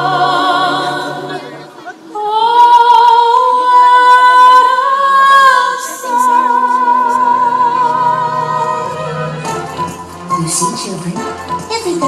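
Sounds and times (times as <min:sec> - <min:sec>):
choir singing a long high note: 0:00.0 - 0:10.0.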